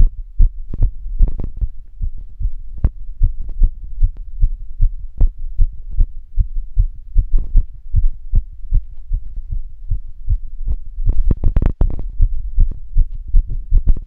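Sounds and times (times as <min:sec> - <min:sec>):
heartbeat thumps: 0:00.0 - 0:14.0.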